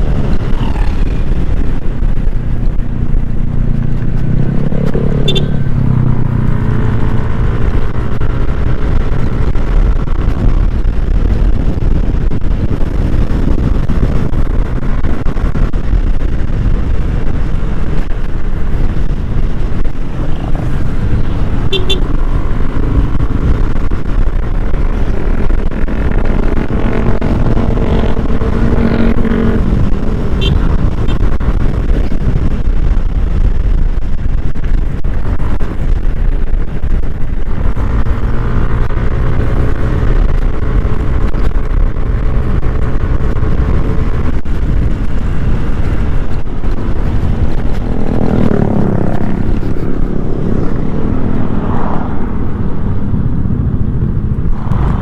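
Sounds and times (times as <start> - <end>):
scooter engine drone: 0.0 - 55.0
wind rushing over microphone: 0.0 - 55.0.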